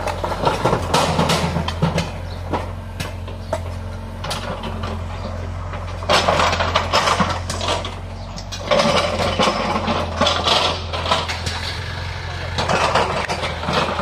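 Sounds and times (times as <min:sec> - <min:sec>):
brick rubble scraping and clattering: 0:00.0 - 0:14.0
diesel engine running: 0:00.0 - 0:14.0.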